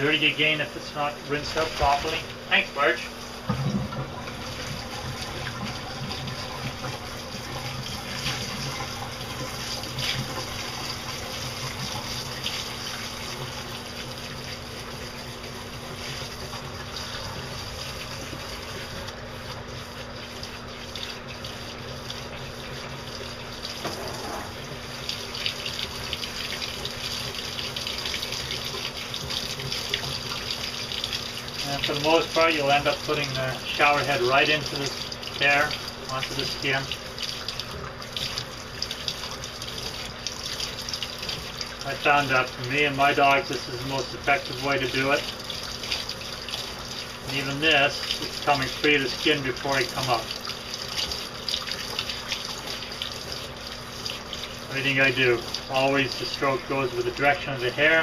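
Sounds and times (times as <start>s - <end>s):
shower head spraying water: 0.0s - 58.0s.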